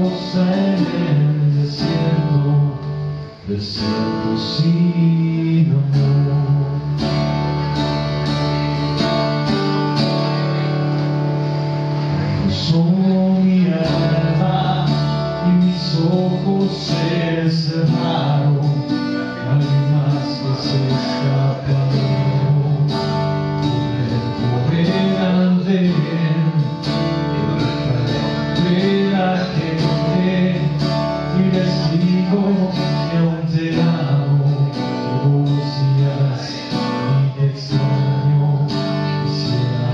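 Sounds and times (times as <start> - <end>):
man singing: 0.0 - 7.3, 12.0 - 39.9
acoustic guitar strummed and picked: 0.0 - 39.9.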